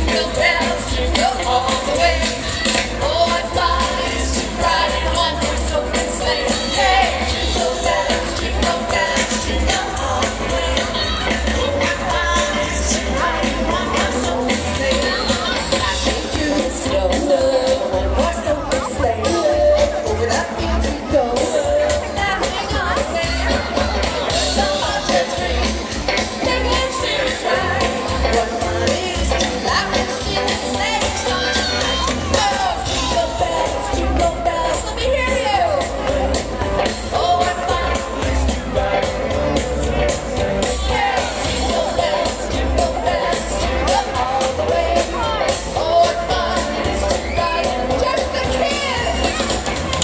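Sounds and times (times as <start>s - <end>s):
lead singer: 0.0s - 50.0s
live pop-rock band: 0.0s - 50.0s.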